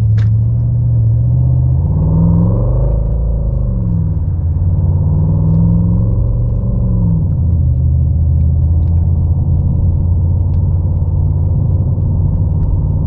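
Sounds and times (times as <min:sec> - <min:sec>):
simulated engine sound through speakers: 0:00.0 - 0:13.0.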